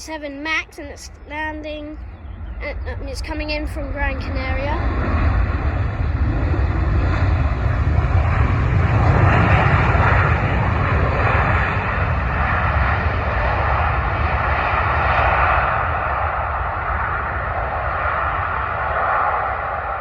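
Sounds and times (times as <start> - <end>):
jet engines passing overhead: 0.0 - 20.0.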